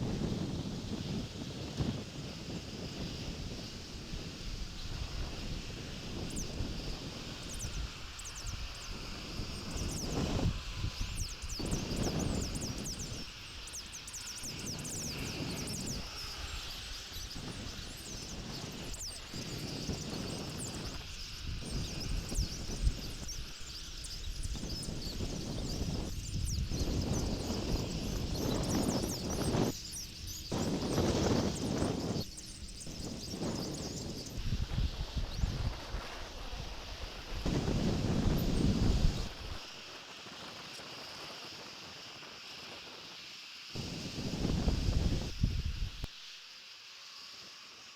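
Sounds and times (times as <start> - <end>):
gusty wind on microphone: 0.0 - 41.1, 43.7 - 46.1.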